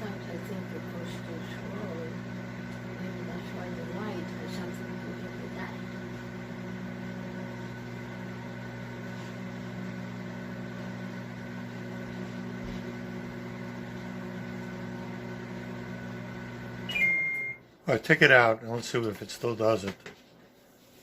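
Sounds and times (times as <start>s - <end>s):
microwave oven humming: 0.0s - 17.9s.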